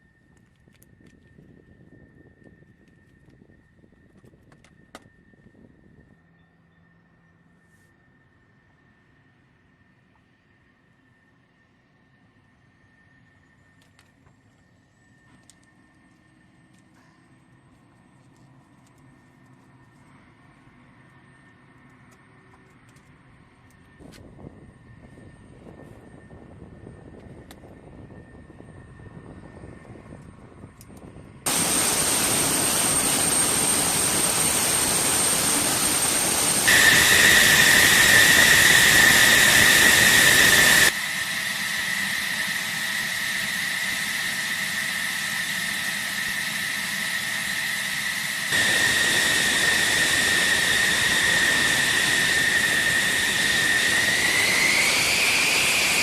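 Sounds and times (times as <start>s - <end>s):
jet engine whine and rush: 0.0s - 56.0s.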